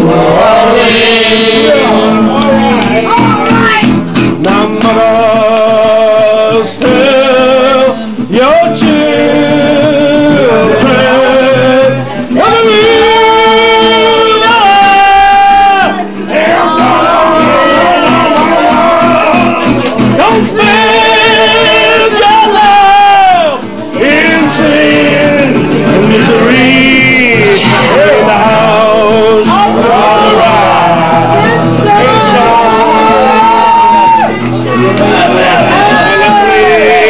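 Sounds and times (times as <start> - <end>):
men singing: 0.0 - 3.0, 4.3 - 37.0.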